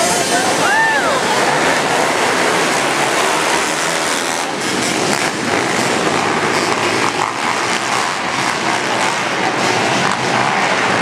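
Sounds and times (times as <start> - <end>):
pit bike engines running: 0.0 - 11.0.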